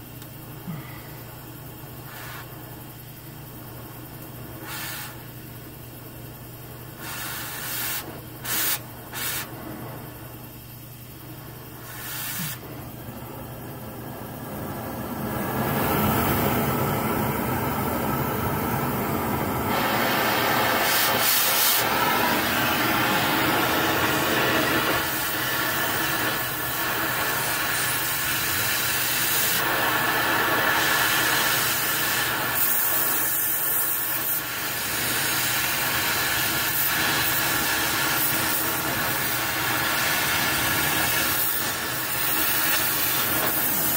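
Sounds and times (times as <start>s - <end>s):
cutting torch hissing: 2.0s - 3.0s, 4.4s - 5.8s, 6.8s - 43.9s.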